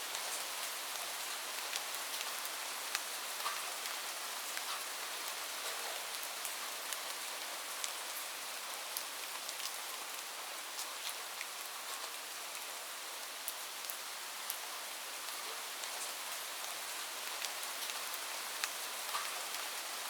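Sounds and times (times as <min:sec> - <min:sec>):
light rain hiss: 0:00.0 - 0:20.0.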